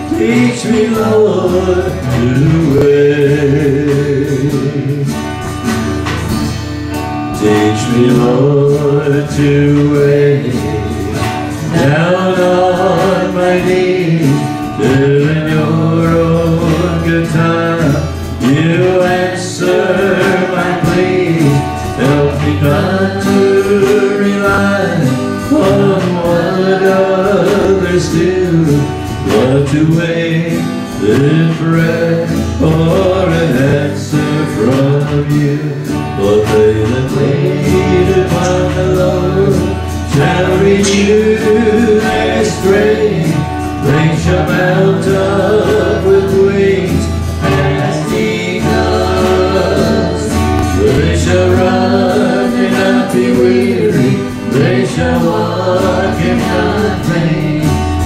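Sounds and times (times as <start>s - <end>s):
person singing: 0.0s - 5.6s, 7.2s - 58.0s
acoustic guitars playing: 0.0s - 58.0s.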